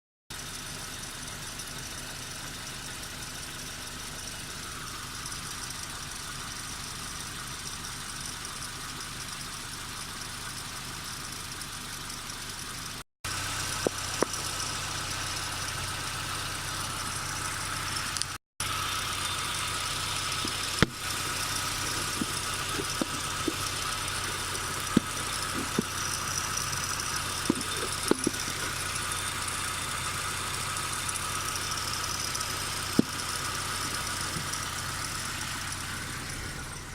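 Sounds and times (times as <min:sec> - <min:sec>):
car engine idling: 0:00.3 - 0:36.9
engine ticks and rattles: 0:00.3 - 0:36.9.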